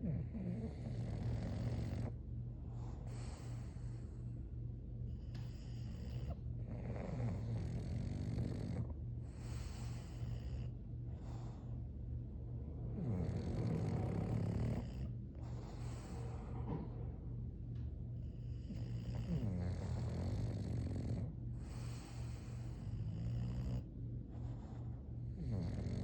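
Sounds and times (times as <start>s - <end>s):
dog snoring: 0.0s - 11.9s, 12.6s - 17.1s, 18.2s - 26.0s
steady low hum: 0.0s - 26.0s.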